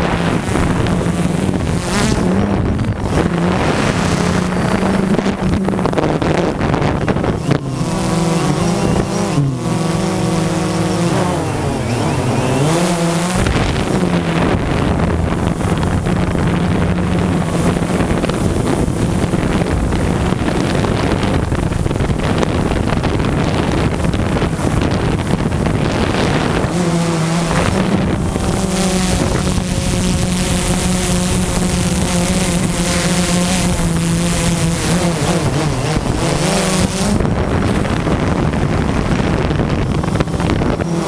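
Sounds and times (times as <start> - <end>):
drone propellers whining: 0.0 - 41.0
wind rushing over microphone: 0.0 - 41.0.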